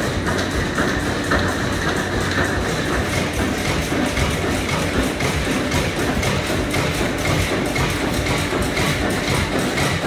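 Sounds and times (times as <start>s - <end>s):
stationary engine clattering: 0.0s - 10.0s.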